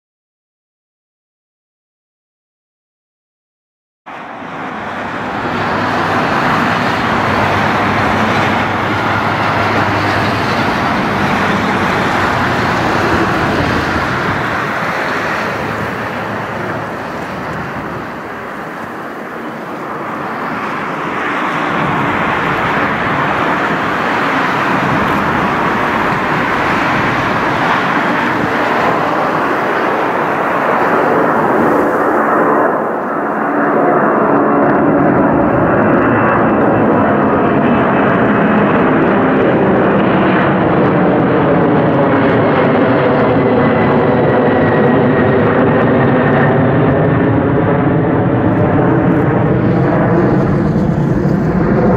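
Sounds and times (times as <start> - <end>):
jet engine roar at takeoff: 4.1 - 51.9.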